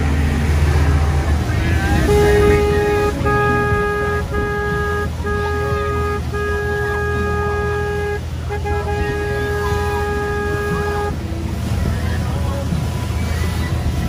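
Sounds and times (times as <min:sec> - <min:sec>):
boat horn blasts: 0:00.0 - 0:12.0
steady low rumble: 0:00.0 - 0:14.0.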